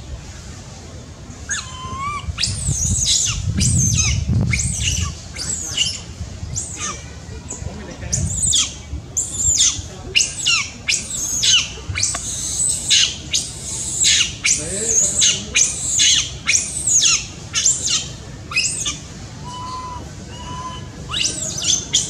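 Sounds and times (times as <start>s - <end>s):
baby monkey screaming: 1.5s - 6.0s, 6.6s - 7.0s, 8.1s - 22.0s.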